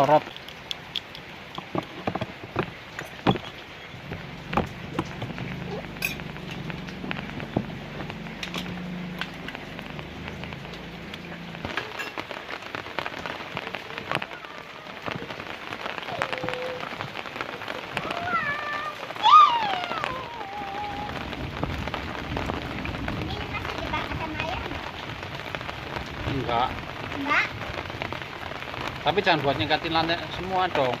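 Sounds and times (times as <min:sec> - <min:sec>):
sharp drips and splats: 0:00.0 - 0:31.0
steady rain falling: 0:00.0 - 0:31.0.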